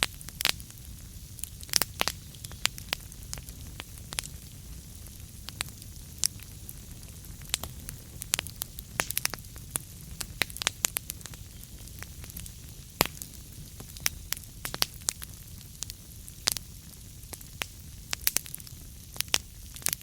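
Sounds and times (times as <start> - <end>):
burning wood crackling: 0.0 - 20.0
low rumble of fire: 0.0 - 20.0.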